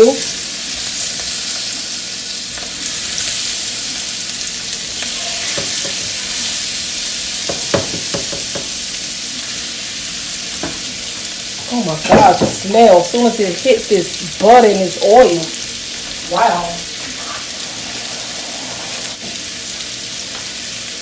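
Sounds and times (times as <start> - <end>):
shrimp sizzling in a pan: 0.0 - 21.0.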